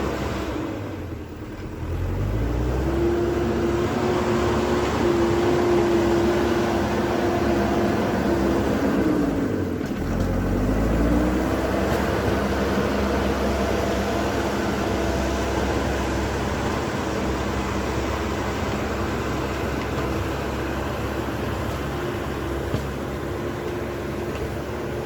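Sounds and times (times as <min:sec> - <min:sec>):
diesel loader engine revving: 0:00.0 - 0:25.0.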